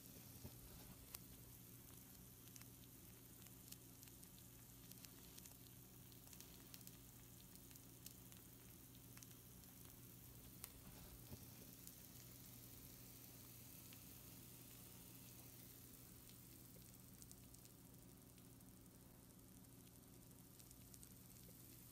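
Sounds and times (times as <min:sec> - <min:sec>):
food sizzling on baking sheet: 0:00.0 - 0:21.9
low steady hum: 0:00.0 - 0:21.9
small crackles and pops: 0:00.0 - 0:21.9.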